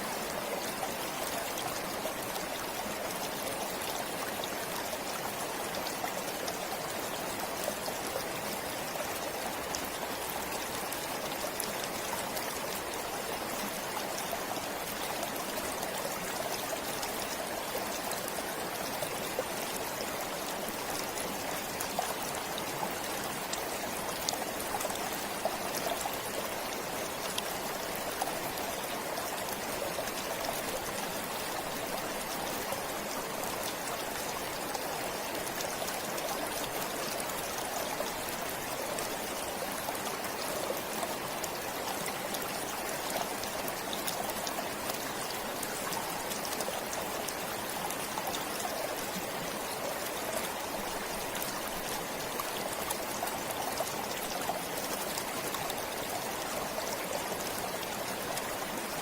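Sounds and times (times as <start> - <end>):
forest stream trickling: 0.0 - 59.0.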